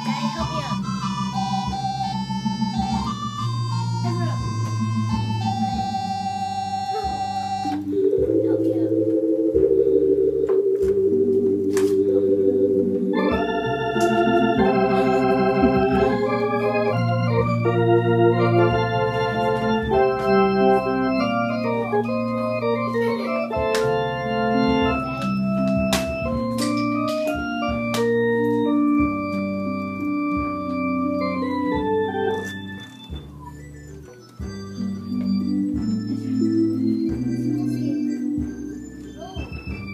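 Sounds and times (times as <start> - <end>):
organ playing slow ballad: 0.0 - 39.9.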